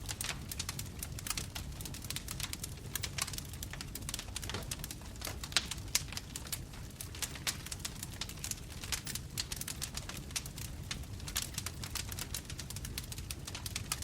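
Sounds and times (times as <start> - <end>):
burning wood snapping: 0.0 - 14.0
low rumble of flames: 0.0 - 14.0.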